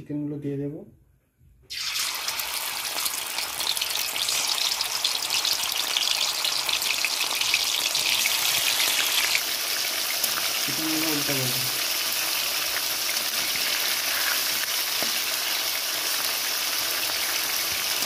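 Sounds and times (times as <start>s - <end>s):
chicken sizzling in hot oil: 1.7s - 18.0s.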